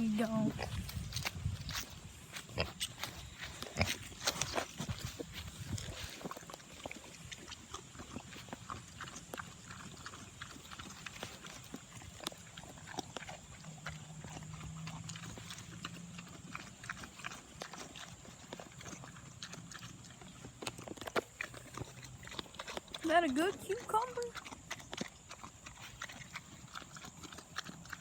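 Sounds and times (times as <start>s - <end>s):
animal crunching cucumber: 0.0s - 28.0s.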